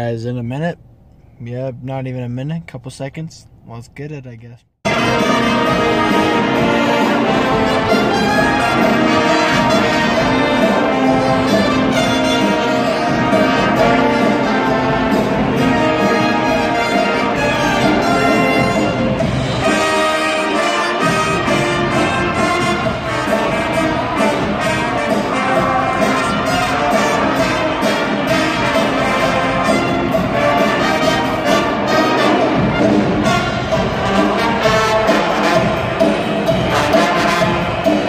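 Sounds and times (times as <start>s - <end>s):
brass band playing: 4.8s - 38.0s.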